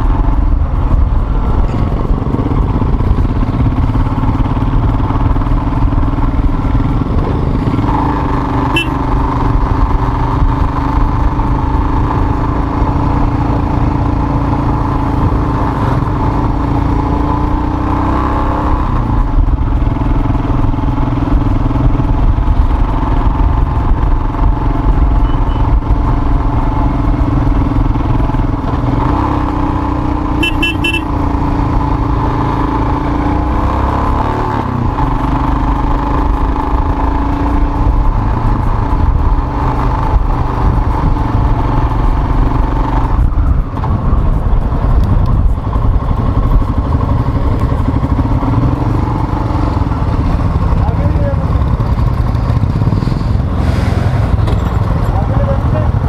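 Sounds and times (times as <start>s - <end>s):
motorcycle engine running: 0.0s - 56.0s
wind rumble: 0.0s - 56.0s.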